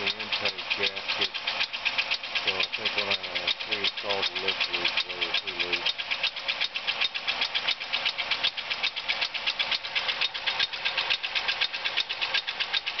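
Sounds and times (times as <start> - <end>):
engine valvetrain ticking: 0.0 - 13.0.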